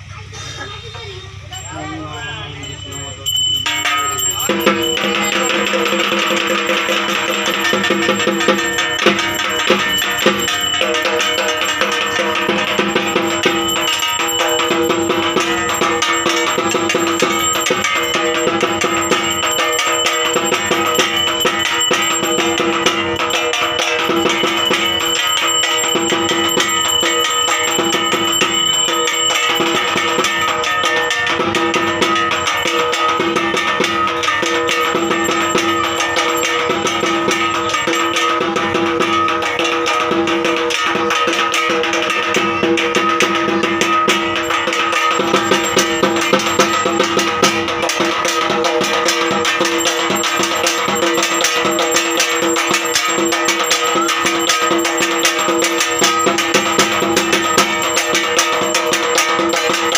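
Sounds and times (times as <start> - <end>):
metallic percussion ringing: 0.0 - 59.9
fast drumming: 1.6 - 59.9.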